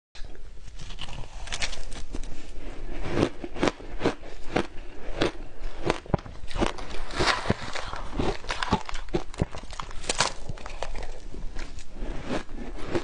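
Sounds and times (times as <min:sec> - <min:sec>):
ice crunching being chewed: 0:00.8 - 0:13.0.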